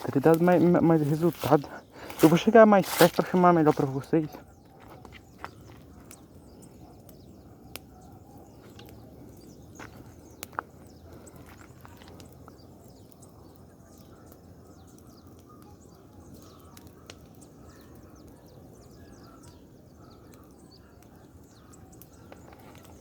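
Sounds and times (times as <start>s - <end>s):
bonfire rushing: 0.0s - 23.0s
fire crackling: 0.0s - 23.0s.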